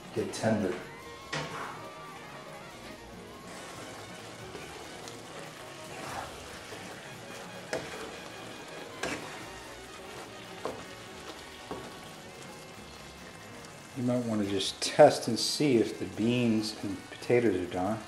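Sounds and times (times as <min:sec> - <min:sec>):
curry sizzling in a wok: 0:00.0 - 0:18.0.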